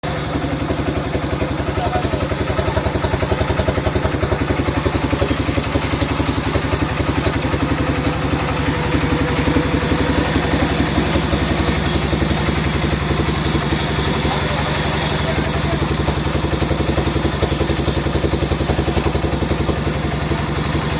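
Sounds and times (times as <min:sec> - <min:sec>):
engine idling with even throb: 0:00.0 - 0:20.9.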